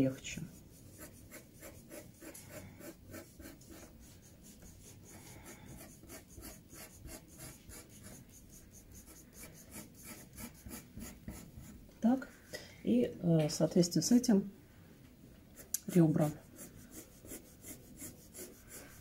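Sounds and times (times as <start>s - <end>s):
pencil scratching on paper: 0.0s - 11.8s, 15.5s - 19.0s.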